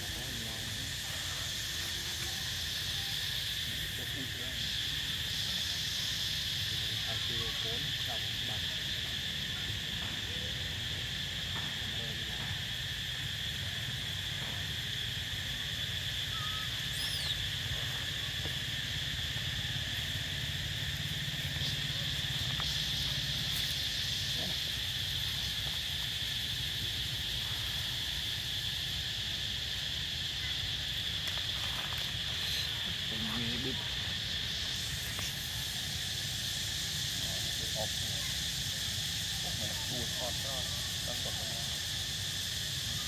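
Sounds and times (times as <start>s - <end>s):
insect chorus drone: 0.0s - 43.0s.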